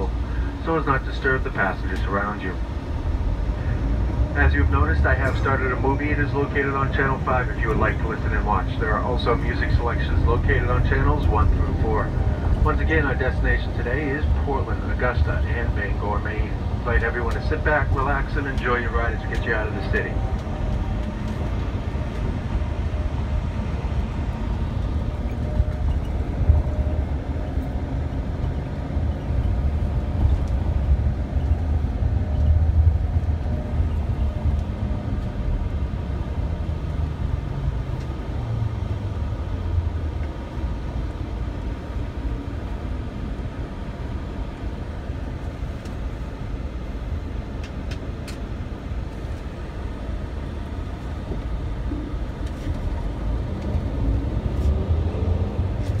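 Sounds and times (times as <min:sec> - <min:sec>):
diesel engine rumbling: 0:00.0 - 0:56.0
road noise: 0:00.0 - 0:56.0.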